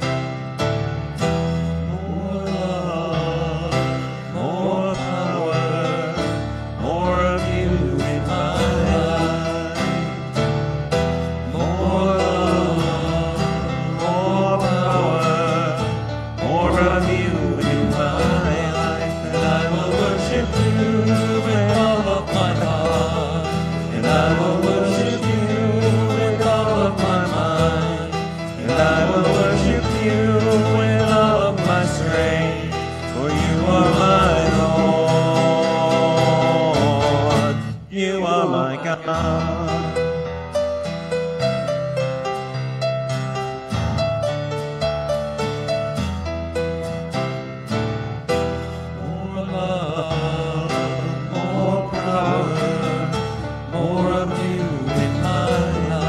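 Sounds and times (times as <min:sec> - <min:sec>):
country-style worship band music: 0:00.0 - 0:56.0.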